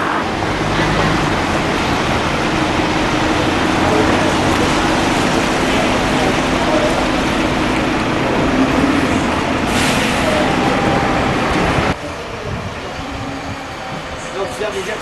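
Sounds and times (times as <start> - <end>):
large vehicle engine running: 0.0 - 15.0.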